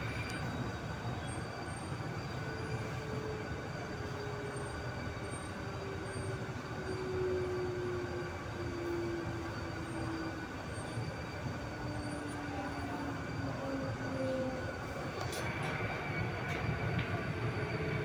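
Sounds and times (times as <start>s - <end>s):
train car running rumble: 0.0s - 18.0s.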